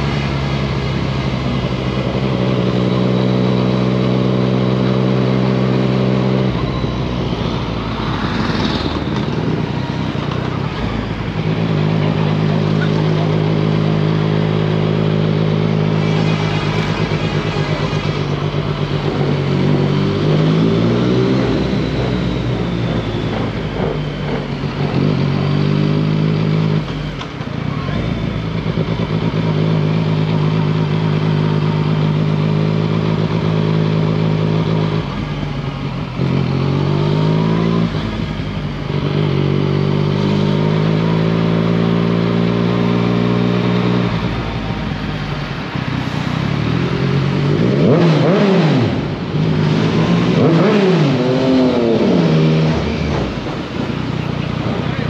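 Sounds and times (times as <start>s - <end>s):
motorcycle engine running and revving: 0.0s - 55.0s.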